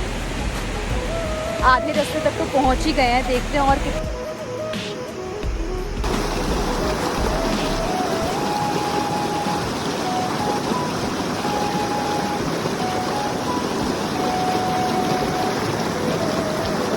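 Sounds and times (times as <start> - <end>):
mountain stream rushing: 0.0 - 16.9
soft background music: 0.0 - 16.9.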